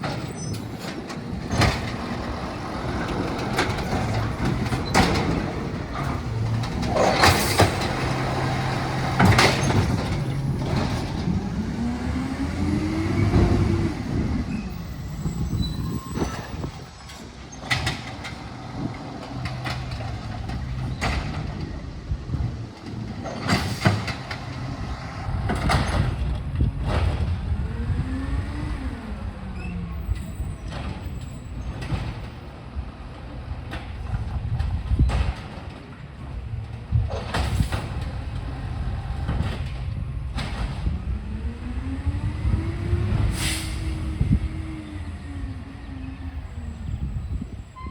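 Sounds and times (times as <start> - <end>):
truck engine humming and revving: 0.0 - 47.9.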